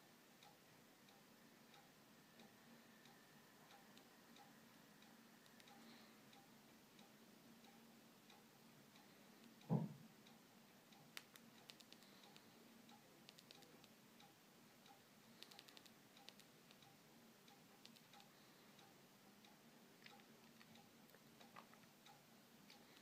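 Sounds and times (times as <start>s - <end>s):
faint clock ticking: 0.0s - 23.0s.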